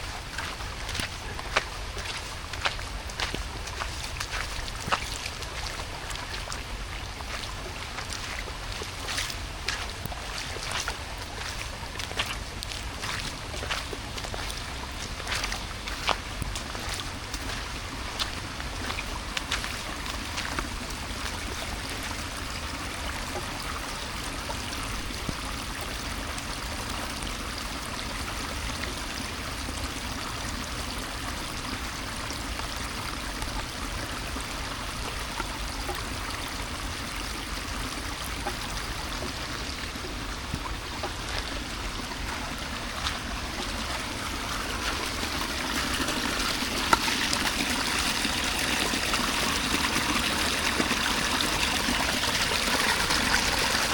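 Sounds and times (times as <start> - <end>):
running water trickling: 0.0 - 53.9.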